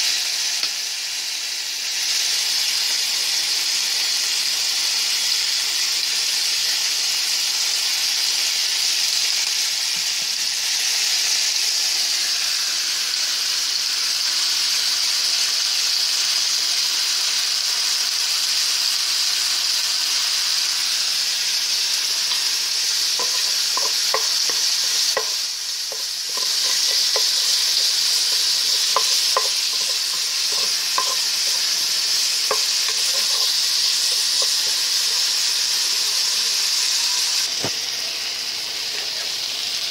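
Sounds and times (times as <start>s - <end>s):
pork sizzling in a frying pan: 0.0s - 39.9s.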